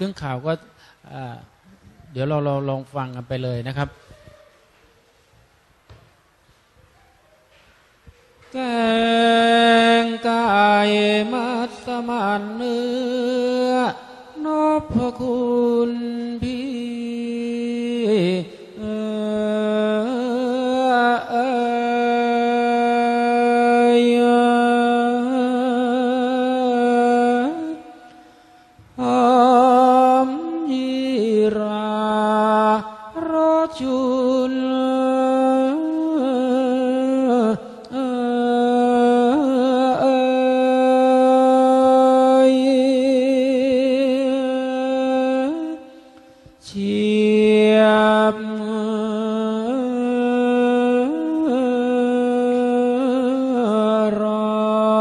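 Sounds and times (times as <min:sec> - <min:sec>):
solo voice chanting: 0:08.2 - 0:55.0.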